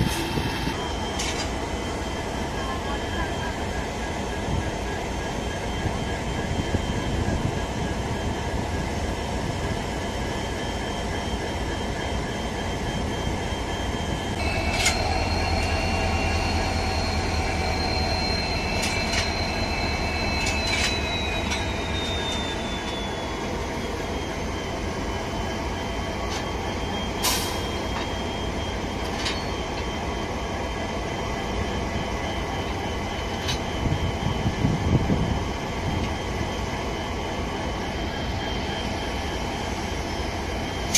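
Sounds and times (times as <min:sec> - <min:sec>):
high-pitched whine: 0:00.0 - 0:40.9.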